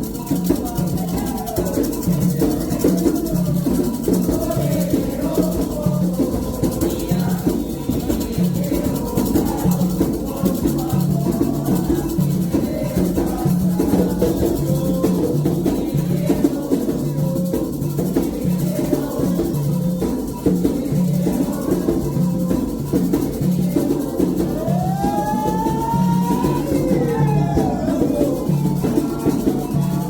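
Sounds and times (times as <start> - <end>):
hand drums beating: 0.0 - 30.0
shaker rattling: 0.0 - 30.0.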